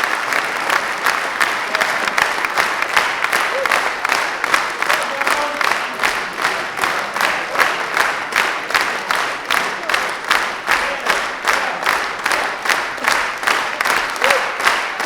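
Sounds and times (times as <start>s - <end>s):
crowd clapping in rhythm: 0.0s - 15.0s.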